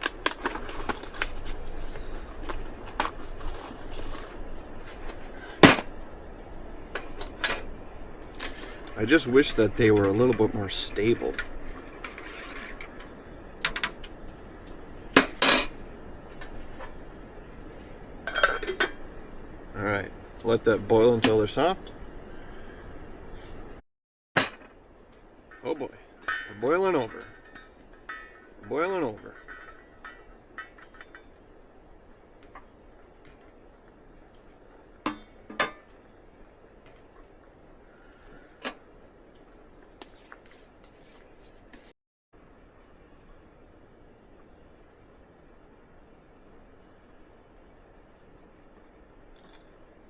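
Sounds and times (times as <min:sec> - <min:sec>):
low steady background hiss: 0:00.0 - 0:23.8, 0:24.4 - 0:41.8, 0:42.4 - 0:50.0.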